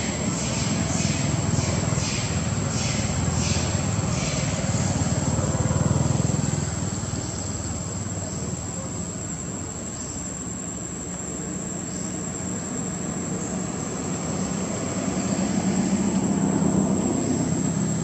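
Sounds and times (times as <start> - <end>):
distant engine drone: 0.0 - 18.0.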